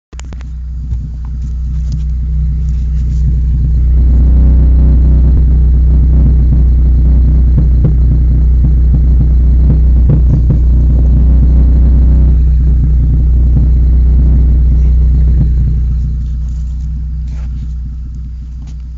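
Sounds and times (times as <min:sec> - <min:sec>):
car engine with leaking exhaust: 0:00.1 - 0:18.9.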